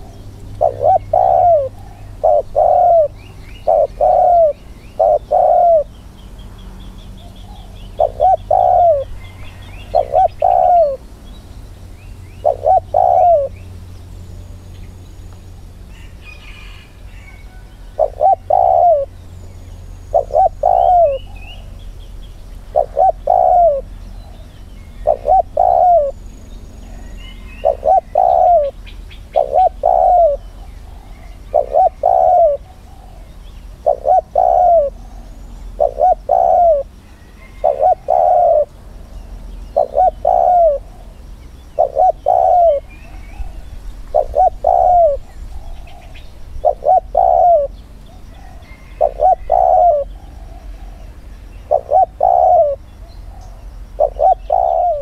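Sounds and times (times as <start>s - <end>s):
dove cooing: 0.0s - 5.9s, 7.4s - 11.1s, 12.4s - 13.6s, 16.0s - 19.2s, 20.1s - 21.8s, 22.7s - 26.3s, 26.9s - 38.8s, 39.7s - 55.0s
small birds chirping: 0.0s - 55.0s.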